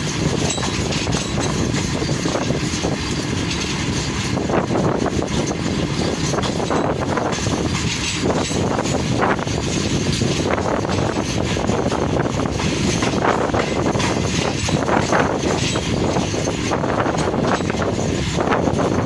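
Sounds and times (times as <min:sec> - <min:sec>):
train wind and rail noise: 0:00.0 - 0:19.0
wheels clattering over rail joints: 0:00.0 - 0:19.0.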